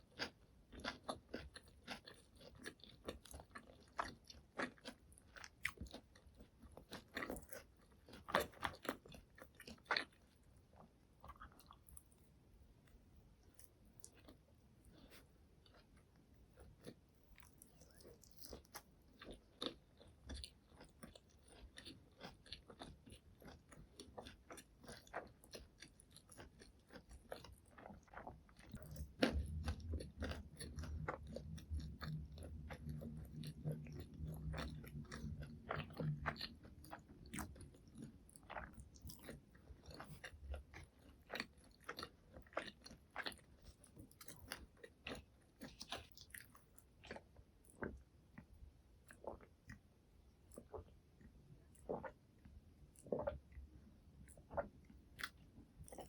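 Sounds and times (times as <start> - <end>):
chewing crunchy food: 0.0 - 56.0.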